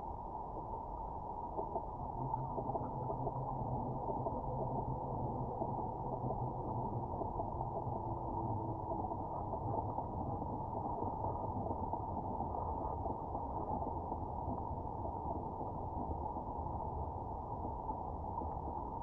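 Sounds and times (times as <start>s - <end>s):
muffled underwater water rush: 0.0s - 19.0s.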